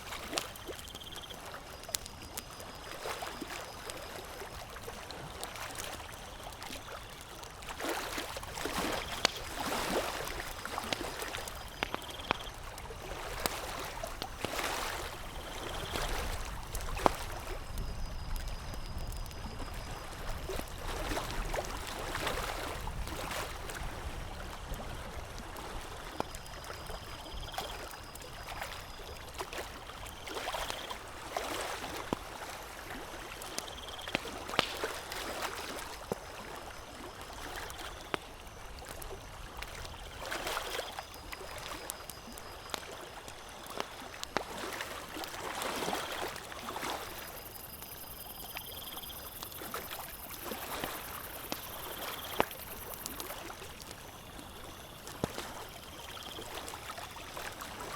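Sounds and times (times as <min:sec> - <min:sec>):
campfire crackling and popping: 0:00.0 - 0:57.6.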